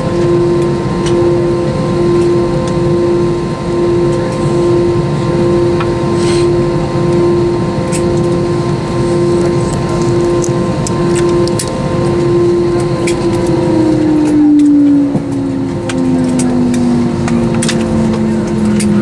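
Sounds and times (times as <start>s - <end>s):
jet engines idling in cabin: 0.0s - 19.0s.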